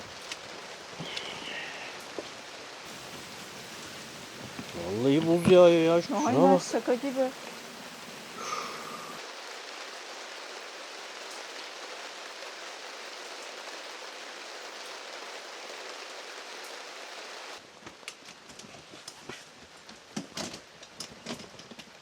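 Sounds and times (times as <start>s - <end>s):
hail falling: 0.0s - 22.0s.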